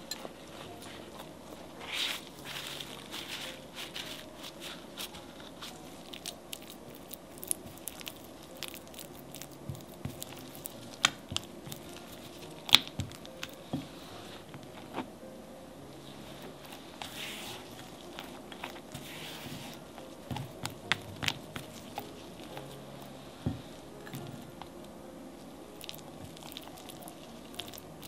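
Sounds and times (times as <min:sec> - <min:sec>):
soft squishing and crinkling: 0:00.0 - 0:15.3, 0:15.9 - 0:28.0.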